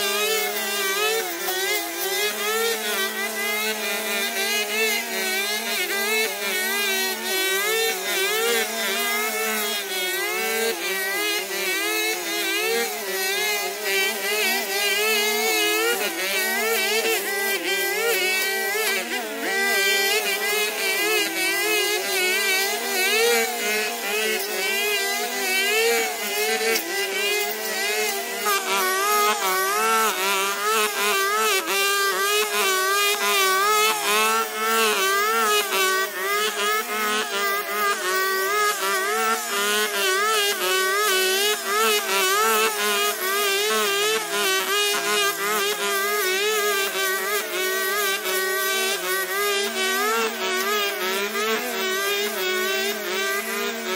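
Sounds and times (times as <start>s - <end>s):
brush cutter engines revving: 0.0s - 53.9s.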